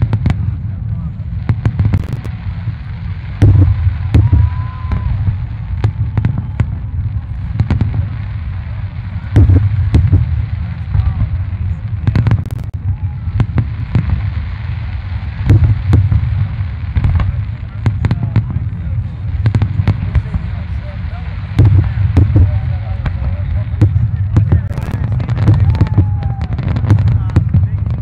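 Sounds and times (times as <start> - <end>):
low rumble: 0.0 - 27.8
fireworks booms and cracks: 0.0 - 28.0.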